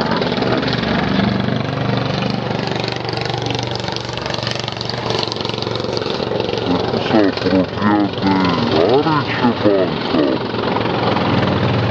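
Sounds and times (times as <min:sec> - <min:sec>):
kart engine running: 0:00.0 - 0:11.9.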